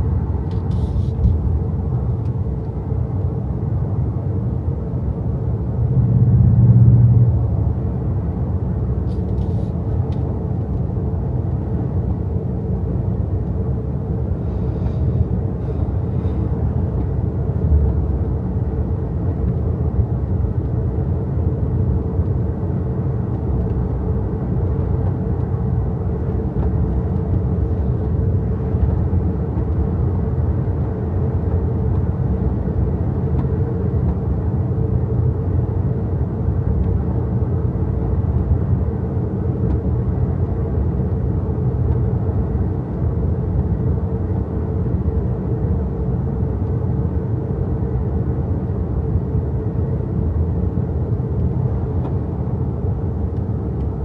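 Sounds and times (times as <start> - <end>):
road and tyre noise: 0.0 - 54.0.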